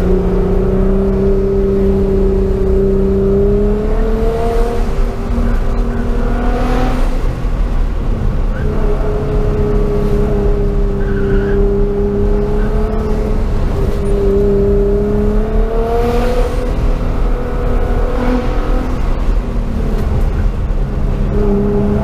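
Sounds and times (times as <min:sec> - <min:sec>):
car engine from inside cabin: 0:00.0 - 0:22.0
road and tyre rumble: 0:00.0 - 0:22.0.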